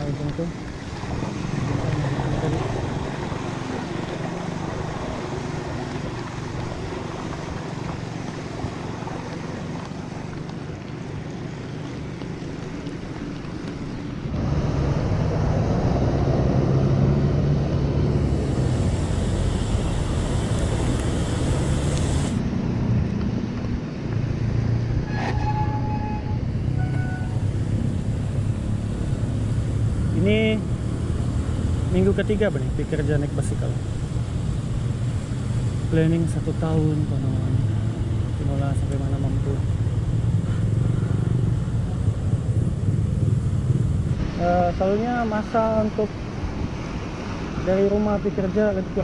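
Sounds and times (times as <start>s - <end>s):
cars passing: 0.0s - 49.0s
water washing under bicycle tyres: 0.0s - 49.0s
wind rumbling on microphone: 0.0s - 49.0s.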